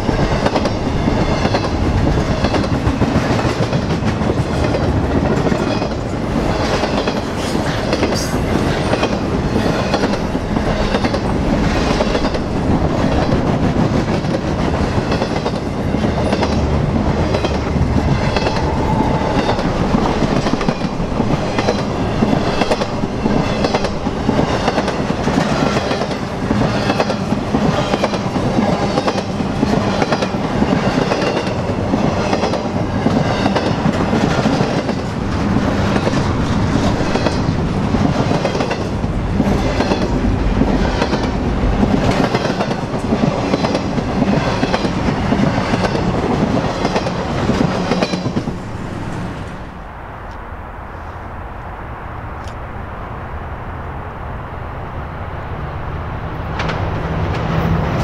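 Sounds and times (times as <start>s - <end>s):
wheels clacking over rail joints: 0.0s - 49.2s
train cars rolling past: 0.0s - 58.0s.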